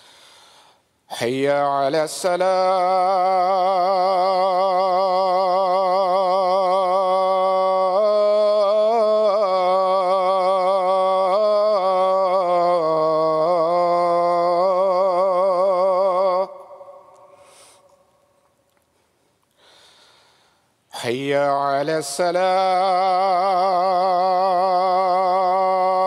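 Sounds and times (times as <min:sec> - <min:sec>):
man chanting call to prayer: 0:01.1 - 0:17.3, 0:21.0 - 0:26.0.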